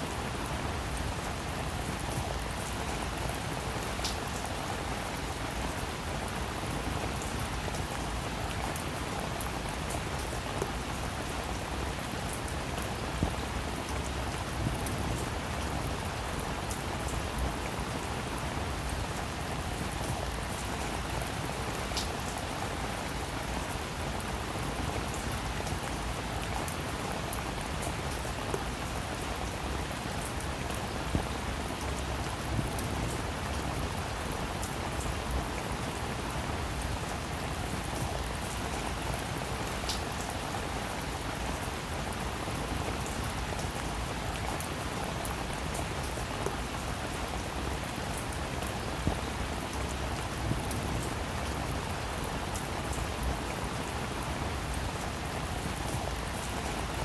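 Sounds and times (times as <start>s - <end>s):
steady rain falling: 0.0s - 57.0s
raindrops ticking close by: 0.1s - 57.0s.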